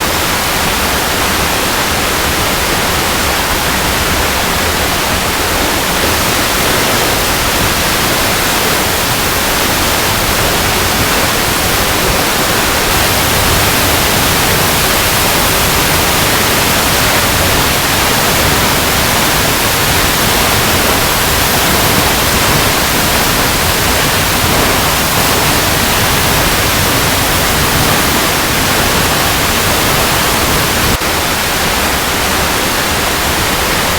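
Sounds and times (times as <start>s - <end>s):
waterfall rushing over rocks: 0.0s - 33.9s.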